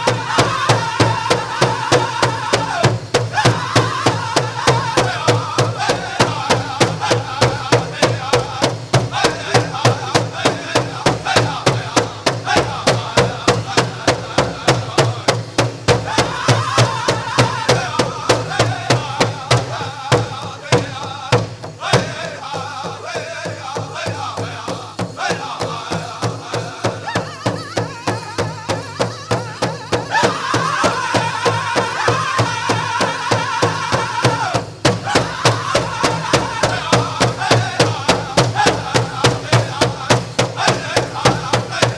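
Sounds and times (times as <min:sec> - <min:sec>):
big drum beating: 0:00.0 - 0:41.9
men singing: 0:00.0 - 0:41.9.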